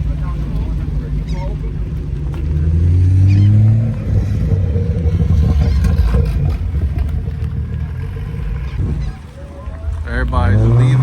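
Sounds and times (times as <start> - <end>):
car engine revving: 0.0 - 11.0
low exhaust rumble: 0.0 - 11.0.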